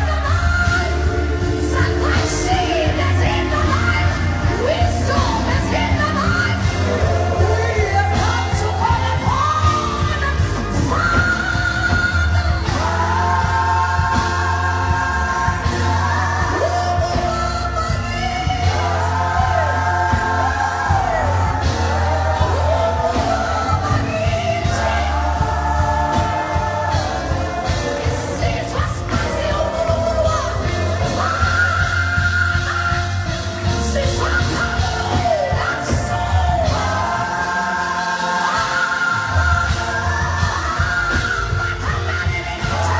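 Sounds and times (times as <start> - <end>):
deep bass: 0.0 - 37.4
band playing: 0.0 - 42.9
woman singing gospel: 0.0 - 42.9.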